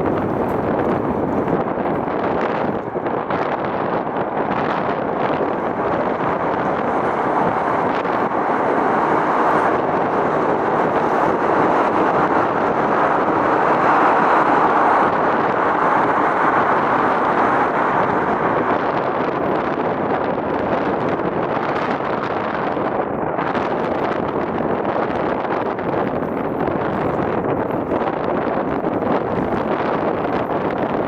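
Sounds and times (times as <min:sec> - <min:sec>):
steady rushing outdoor noise: 0:00.0 - 0:31.0.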